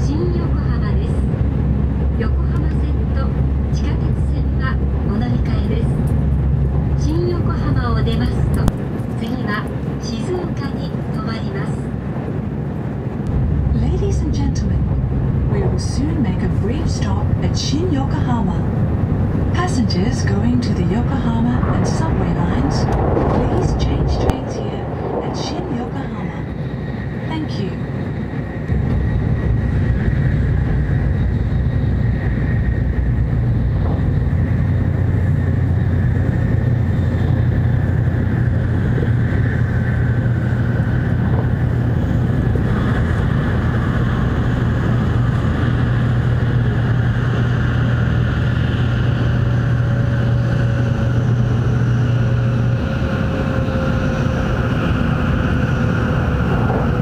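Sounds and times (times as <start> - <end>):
train running rumble inside cabin: 0.0 - 57.0.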